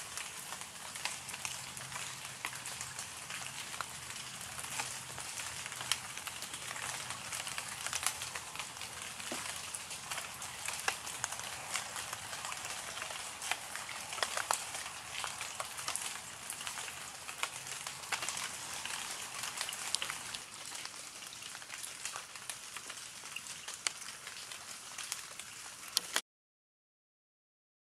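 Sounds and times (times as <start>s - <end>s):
rain falling: 0.0s - 26.2s.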